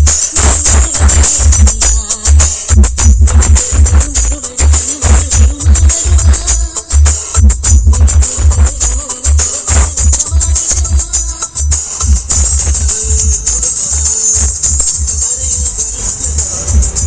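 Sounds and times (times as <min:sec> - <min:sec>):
bright shaker-like percussion: 0:00.0 - 0:17.0
deep bass beats: 0:00.0 - 0:17.0.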